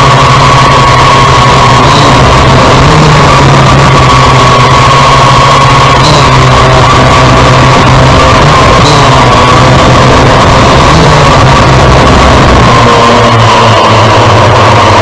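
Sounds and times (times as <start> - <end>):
quadcopter motors droning: 0.0 - 15.0.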